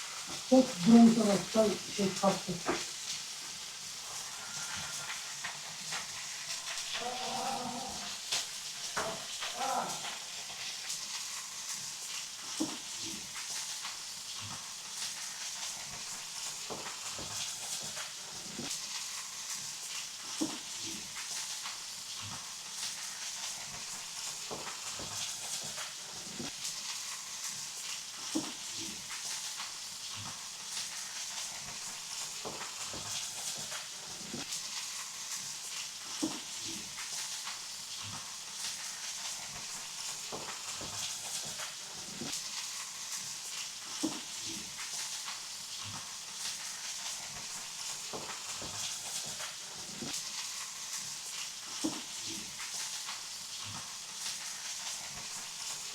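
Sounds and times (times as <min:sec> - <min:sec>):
meat sizzling: 0:00.0 - 0:55.9.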